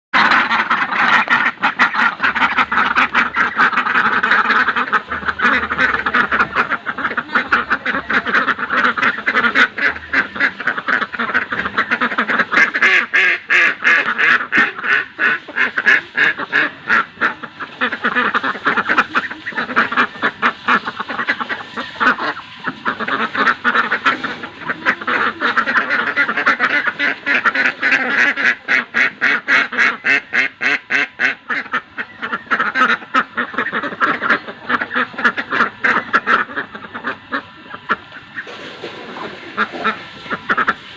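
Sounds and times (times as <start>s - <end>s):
ducks quacking: 0.2s - 40.9s.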